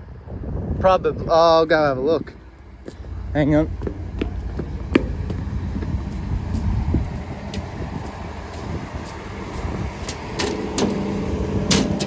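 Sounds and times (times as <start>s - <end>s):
engine rumbling: 0.0s - 12.0s
wind on microphone: 0.0s - 12.0s
steady hum: 1.7s - 12.0s.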